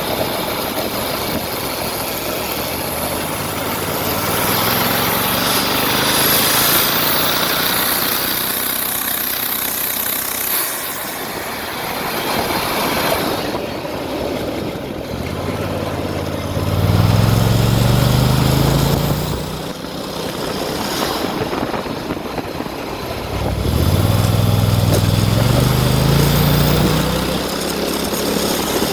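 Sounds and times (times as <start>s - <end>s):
go kart engine revving: 0.0s - 28.9s.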